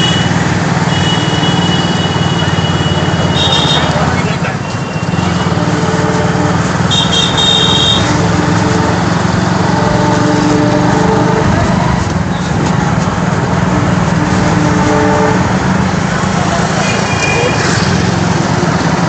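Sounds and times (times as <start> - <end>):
motorcycle engine running: 0.0 - 19.0
road and traffic noise: 0.0 - 19.0.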